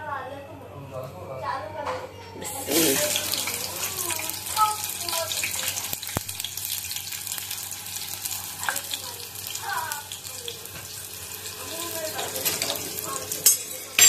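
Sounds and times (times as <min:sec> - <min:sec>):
onions sizzling in oil: 0:02.4 - 0:14.0.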